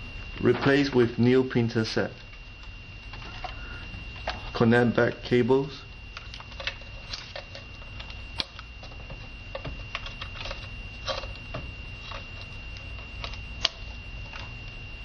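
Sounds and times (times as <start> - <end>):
faint steady high tone: 0.0 - 15.0.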